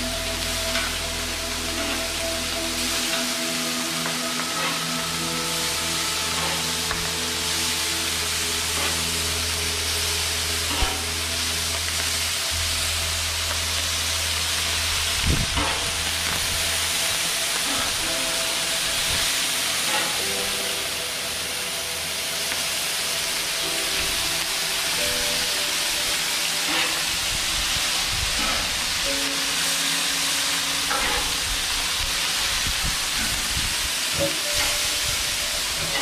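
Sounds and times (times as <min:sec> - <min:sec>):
bacon sizzling on griddle: 0:00.0 - 0:36.0.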